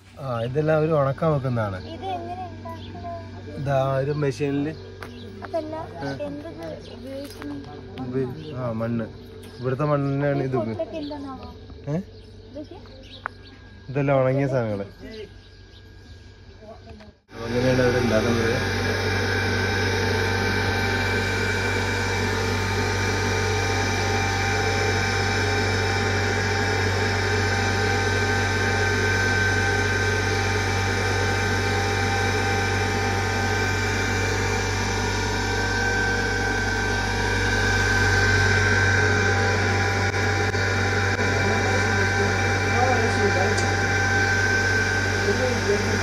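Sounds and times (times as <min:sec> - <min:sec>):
electric motor humming and whining: 0:00.0 - 0:46.0.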